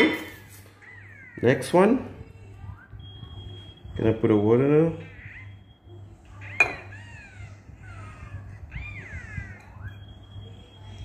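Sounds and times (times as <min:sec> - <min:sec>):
low steady hum: 0:02.0 - 0:11.0.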